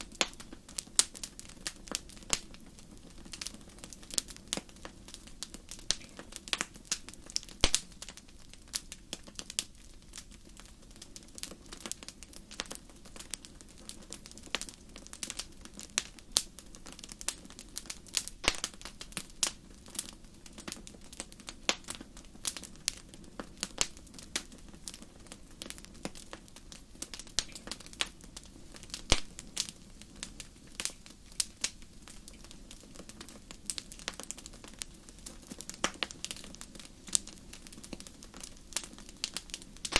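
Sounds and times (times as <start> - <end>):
faint steady background noise: 0.0 - 39.9
wood fire crackling: 0.0 - 39.9.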